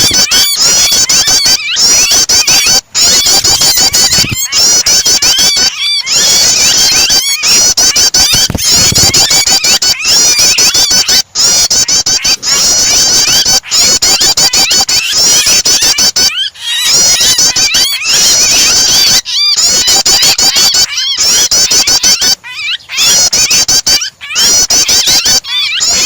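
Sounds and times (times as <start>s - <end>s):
shrill bird chirps: 0.0s - 26.0s.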